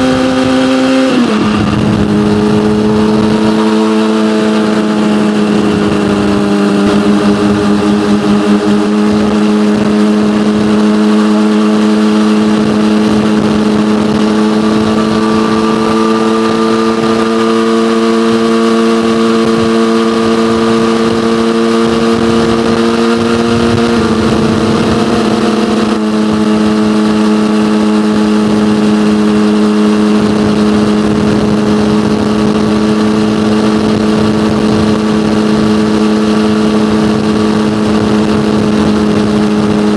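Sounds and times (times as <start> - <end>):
motorcycle exhaust cruising: 0.0 - 39.9.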